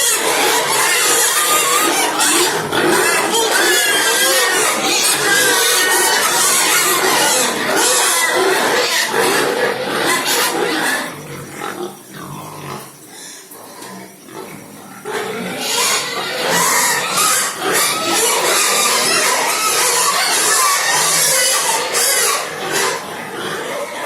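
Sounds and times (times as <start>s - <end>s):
pigs calling: 0.0s - 24.0s.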